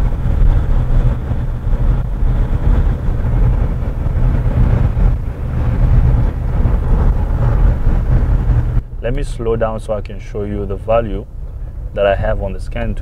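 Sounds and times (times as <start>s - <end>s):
deep road rumble: 0.0s - 13.0s
diesel car engine pulling: 0.0s - 13.0s.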